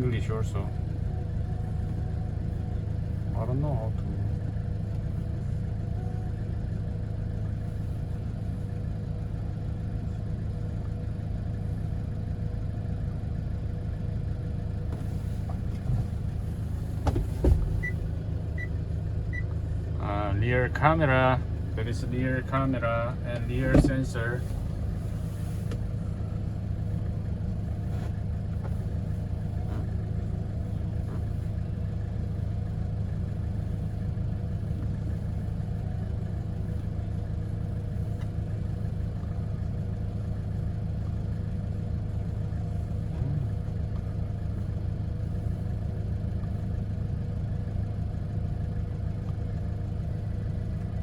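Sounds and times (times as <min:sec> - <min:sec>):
truck engine idling: 0:00.0 - 0:51.0.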